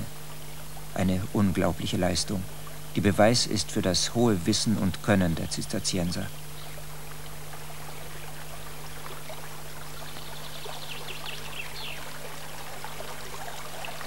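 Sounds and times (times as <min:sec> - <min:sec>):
water trickling in a ditch: 0:00.0 - 0:14.0.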